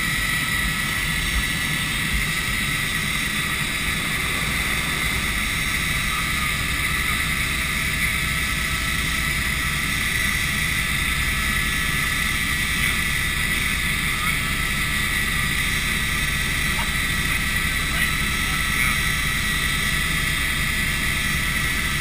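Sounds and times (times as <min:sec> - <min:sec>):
helicopter turbine whine: 0:00.0 - 0:22.0
rotor pulsing noise: 0:00.0 - 0:22.0.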